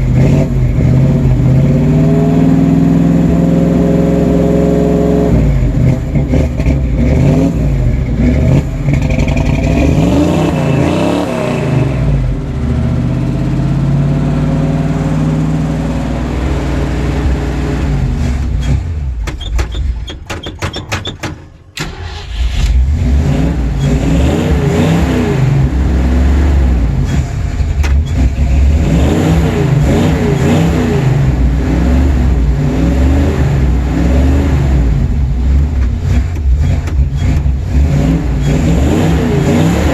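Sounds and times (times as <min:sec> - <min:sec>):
engine revving and sputtering: 0:00.0 - 0:21.2, 0:21.8 - 0:39.9.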